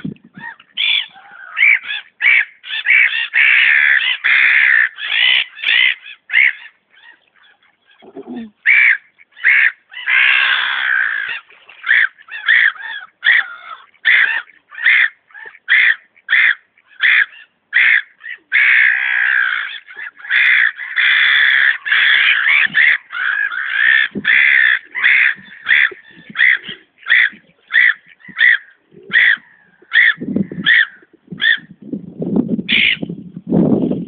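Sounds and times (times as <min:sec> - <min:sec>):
gulls calling: 0:00.0 - 0:31.8.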